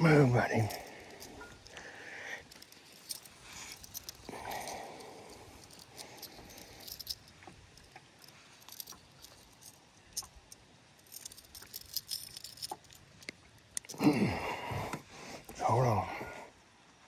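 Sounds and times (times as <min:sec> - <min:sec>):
metallic clicking and jingling hooks: 0:00.0 - 0:14.0.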